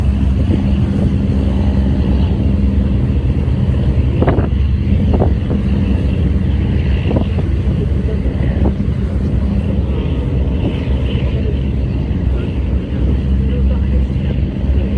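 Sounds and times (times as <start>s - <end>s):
boat diesel engines droning: 0.0s - 14.9s.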